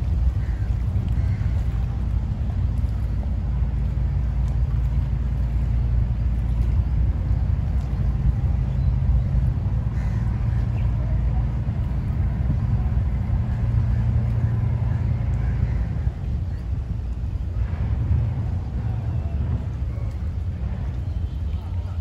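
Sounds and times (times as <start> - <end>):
boat engines rumbling: 0.0 - 22.0.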